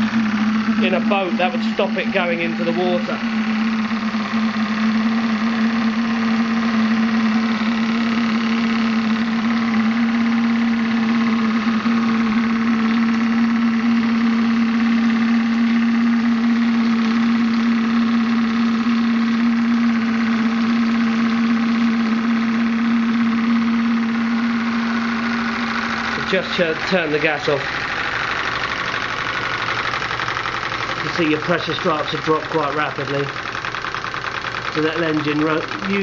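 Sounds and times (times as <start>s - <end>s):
model steam engine running: 0.0s - 36.0s.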